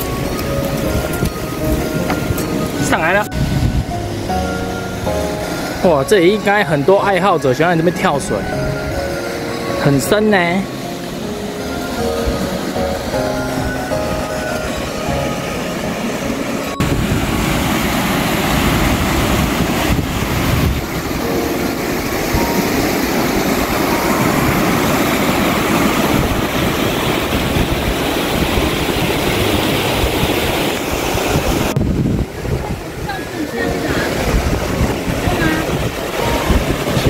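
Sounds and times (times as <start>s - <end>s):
mountain stream rushing: 0.0s - 37.0s.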